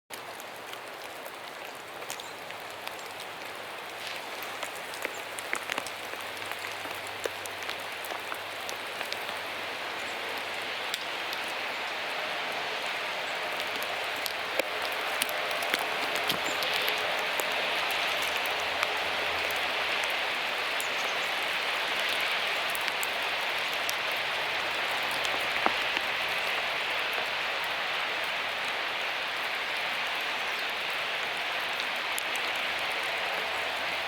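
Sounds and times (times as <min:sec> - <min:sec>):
raindrops ticking sharply: 0:00.1 - 0:12.0, 0:12.8 - 0:34.0
steady rain hissing: 0:00.1 - 0:34.0.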